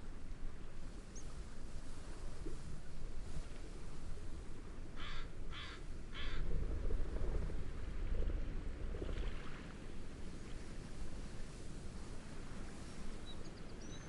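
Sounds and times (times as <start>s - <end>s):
wind and waves rushing: 0.0s - 13.8s.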